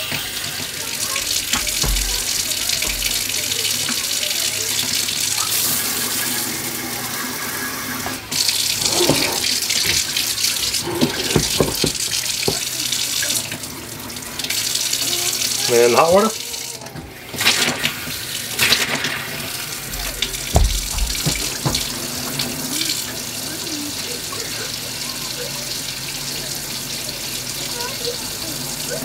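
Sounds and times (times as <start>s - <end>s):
water running into metal sink: 0.0s - 29.0s.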